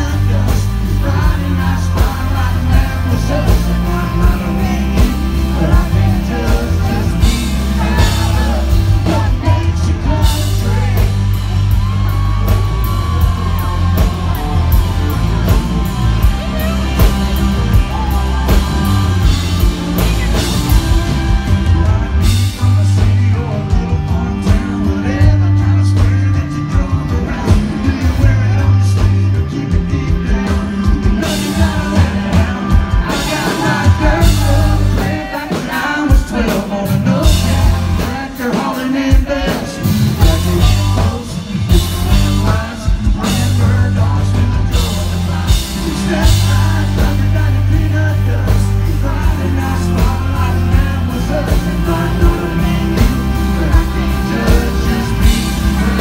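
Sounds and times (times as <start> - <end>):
country-rock band playing: 0.0 - 56.0
man singing lead: 0.0 - 56.0.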